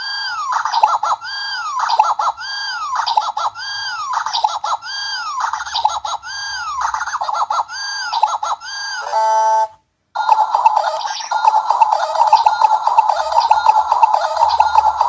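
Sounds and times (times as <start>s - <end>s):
toy synthesized sound effect: 0.0s - 15.0s.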